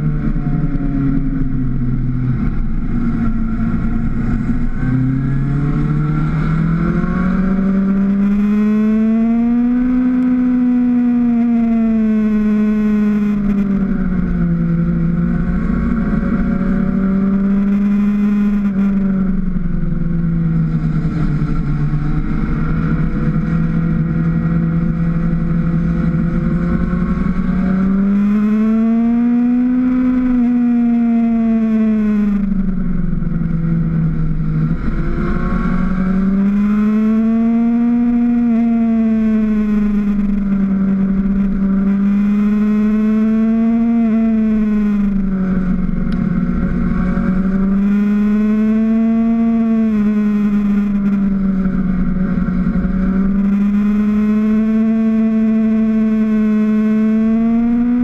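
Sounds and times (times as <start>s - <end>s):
motorcycle engine revving: 0.0s - 58.0s
wind rumble on microphone: 0.0s - 58.0s.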